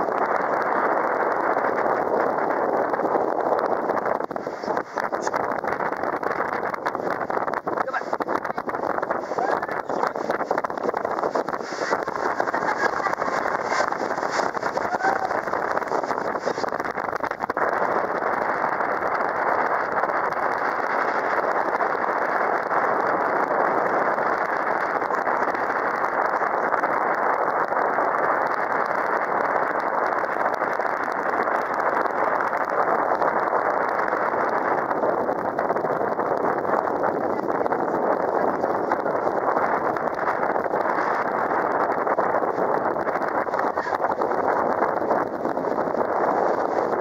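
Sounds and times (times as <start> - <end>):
boat rushing noise: 0.0 - 47.0
wind on microphone: 0.0 - 47.0.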